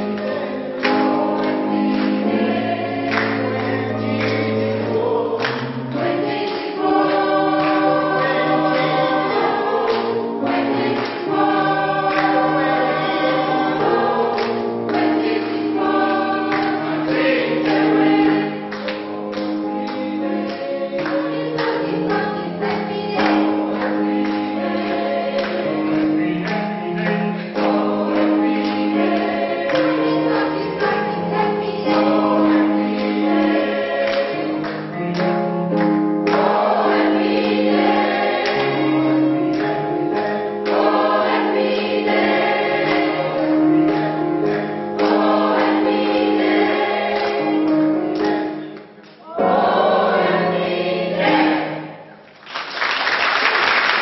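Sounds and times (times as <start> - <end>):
choir singing gospel: 0.0 - 52.2.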